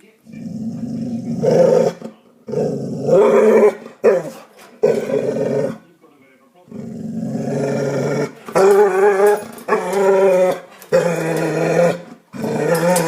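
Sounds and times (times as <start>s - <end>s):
dog growling: 0.2s - 5.8s, 6.7s - 13.0s.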